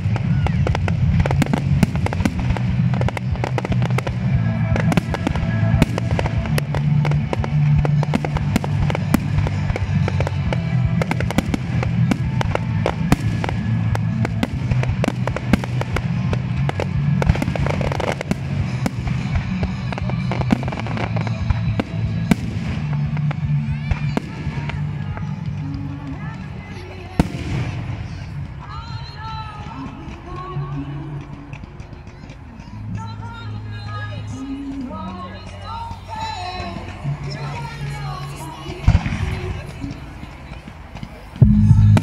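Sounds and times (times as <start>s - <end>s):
fireworks bangs and crackling: 0.0s - 42.0s
music playing: 0.0s - 42.0s.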